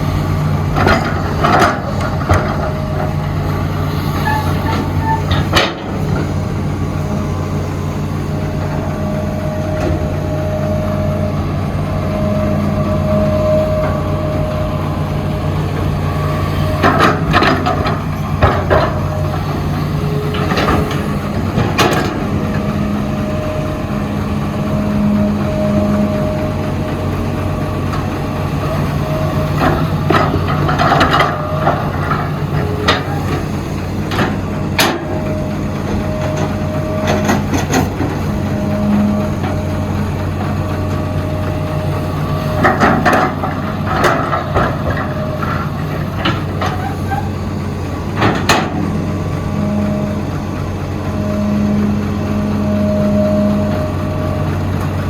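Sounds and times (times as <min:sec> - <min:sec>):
diesel excavator engine running: 0:00.0 - 0:55.0
hydraulic whine: 0:00.0 - 0:55.0.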